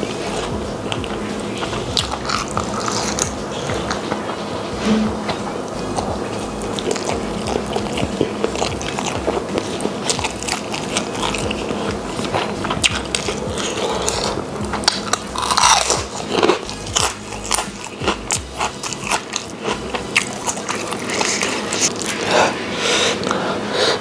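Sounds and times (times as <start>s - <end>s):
close-up chewing with mouth clicks: 0.0s - 4.2s, 5.9s - 22.5s.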